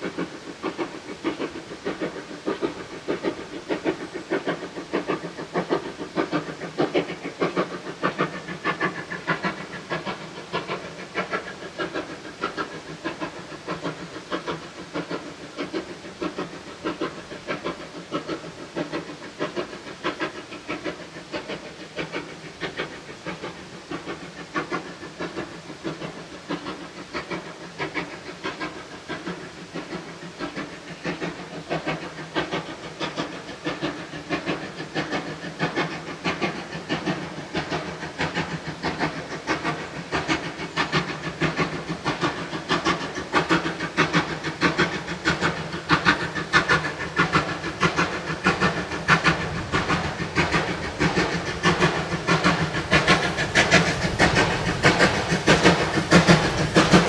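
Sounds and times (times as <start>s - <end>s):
hiss of steam: 0.0s - 57.0s
steam locomotive exhaust beating: 0.0s - 57.0s.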